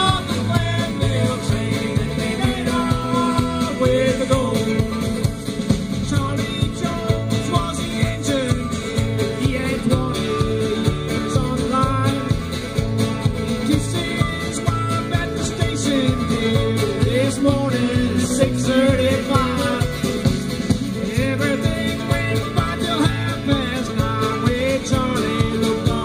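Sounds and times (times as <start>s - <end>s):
live band playing country-rock: 0.0s - 26.0s.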